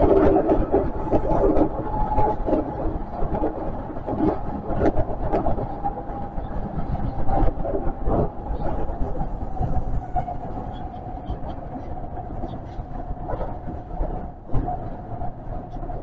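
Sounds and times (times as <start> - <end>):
rumble of train wheels on rail: 0.0 - 16.0.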